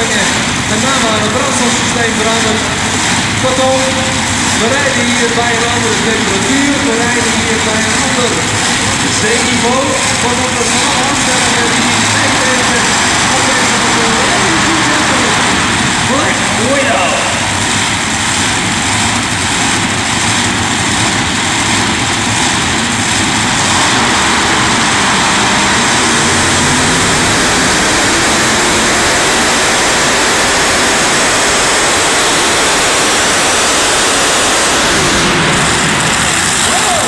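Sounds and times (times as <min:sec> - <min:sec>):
tractor engine at full power: 0:00.0 - 0:37.0.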